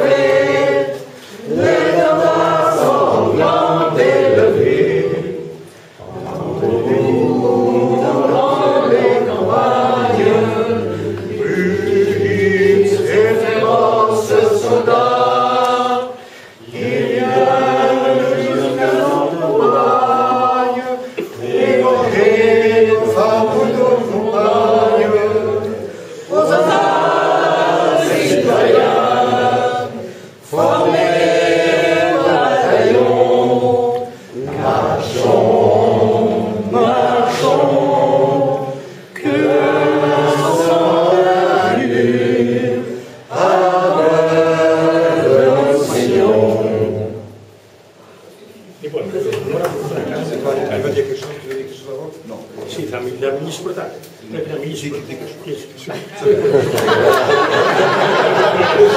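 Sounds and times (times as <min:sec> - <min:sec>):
choir singing chant: 0:00.0 - 0:47.6, 0:56.2 - 0:58.9.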